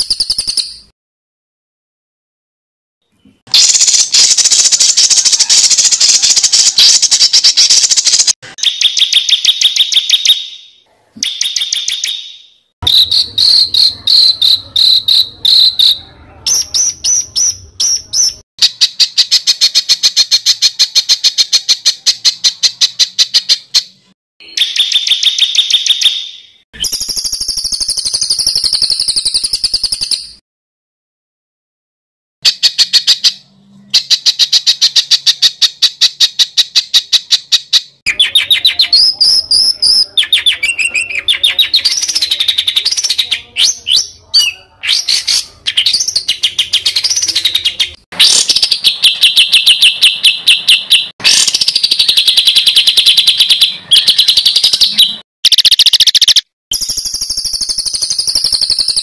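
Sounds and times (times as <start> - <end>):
bird whistled phrases: 3.2 - 30.4, 32.4 - 59.0.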